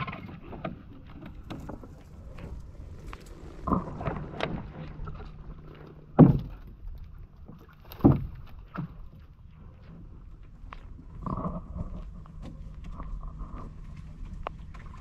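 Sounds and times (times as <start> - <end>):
canoe paddle strokes and knocks: 0.0 - 15.0.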